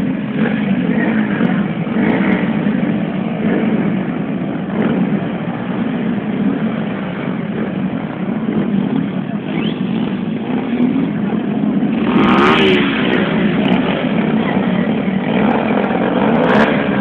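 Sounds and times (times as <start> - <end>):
car engines running: 0.0 - 17.0.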